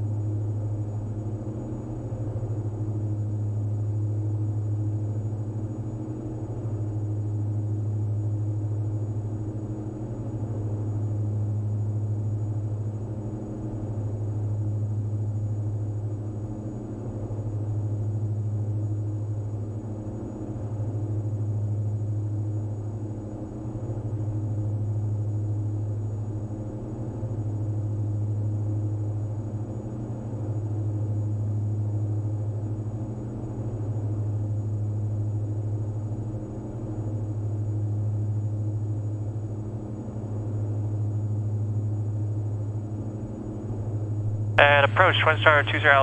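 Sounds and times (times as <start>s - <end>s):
twin propeller aircraft drone: 0.0s - 43.1s, 44.3s - 46.0s.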